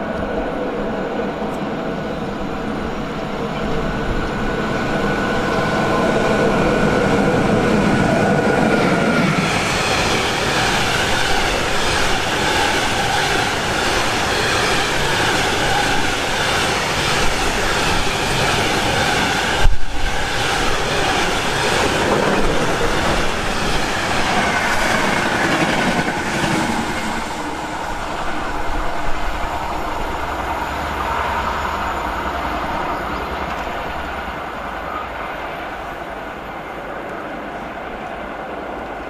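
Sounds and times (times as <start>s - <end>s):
train whine: 0.0s - 39.0s
train wheels rolling and clattering: 3.4s - 35.0s.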